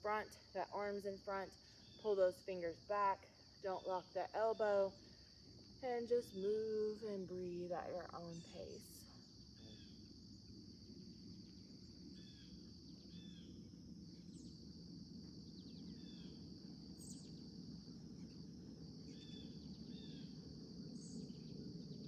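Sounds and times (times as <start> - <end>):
cricket-like trill: 0.0 - 22.0.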